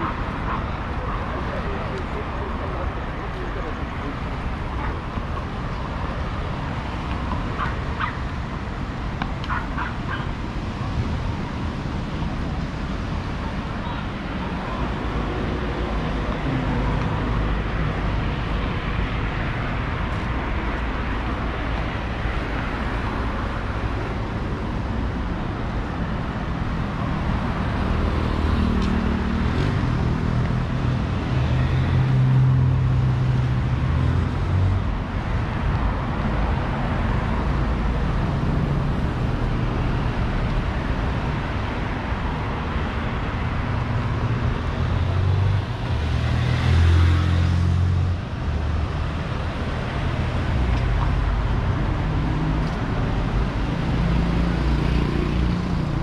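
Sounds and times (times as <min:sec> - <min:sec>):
vehicles driving by: 0:00.0 - 0:56.0.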